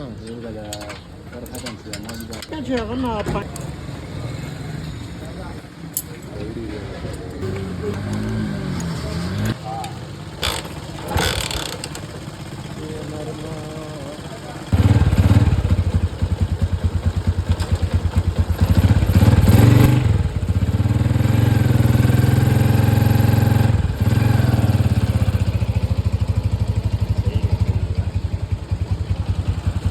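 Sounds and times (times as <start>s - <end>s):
motorcycle engine idling and revving: 0.0s - 29.9s.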